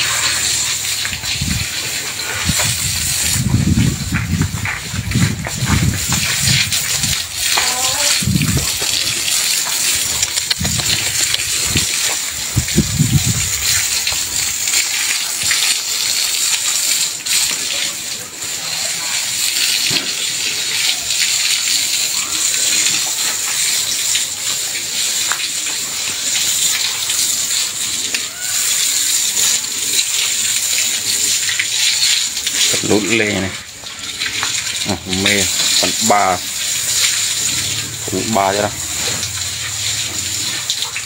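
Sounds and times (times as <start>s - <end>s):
hose water spraying: 0.0s - 41.0s.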